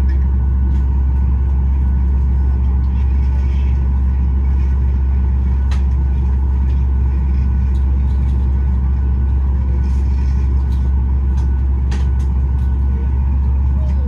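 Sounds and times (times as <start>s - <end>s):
air-conditioning: 0.0s - 14.0s
aircraft engine rumble: 0.0s - 14.0s.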